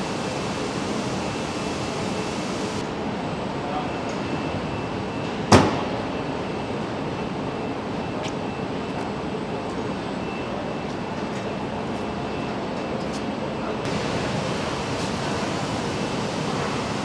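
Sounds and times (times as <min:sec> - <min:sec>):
factory noise: 0:00.0 - 0:17.0.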